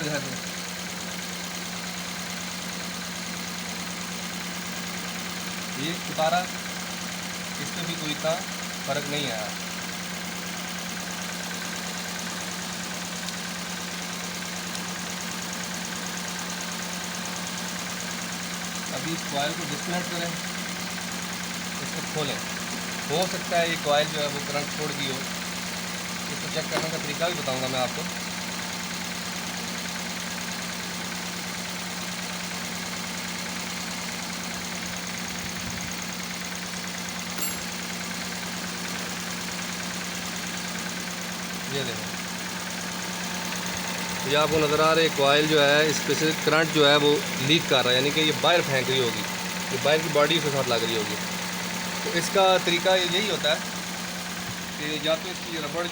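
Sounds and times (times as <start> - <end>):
car engine idling unevenly: 0.0 - 55.9.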